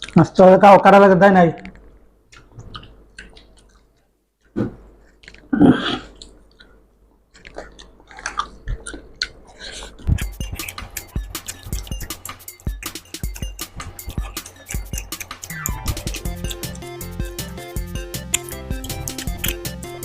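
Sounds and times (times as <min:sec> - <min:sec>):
chewing and mouth sounds: 0:00.0 - 0:00.2, 0:01.6 - 0:04.1, 0:05.0 - 0:20.0.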